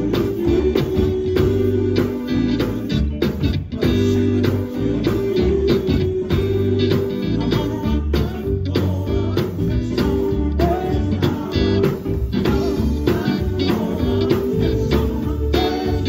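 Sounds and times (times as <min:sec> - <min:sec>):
bass guitar: 0:00.0 - 0:16.0
drums: 0:00.0 - 0:16.0
electric guitar: 0:00.0 - 0:16.0
person singing: 0:00.0 - 0:16.0.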